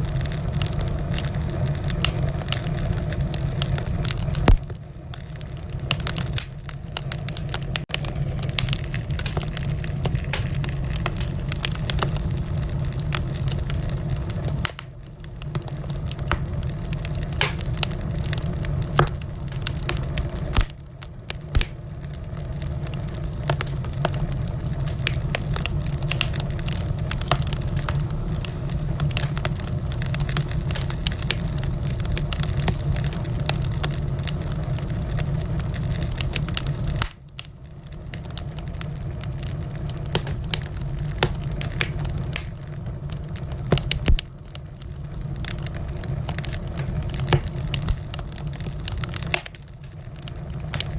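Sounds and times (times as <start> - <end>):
fire popping and snapping: 0.0 - 50.9
low rumble of burning: 0.0 - 50.9
wood fire crackling: 0.0 - 50.9.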